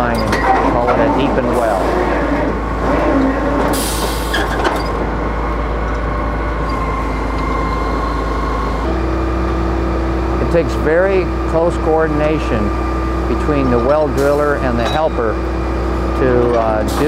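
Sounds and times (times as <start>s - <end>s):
drill rig engine running: 0.0s - 17.0s.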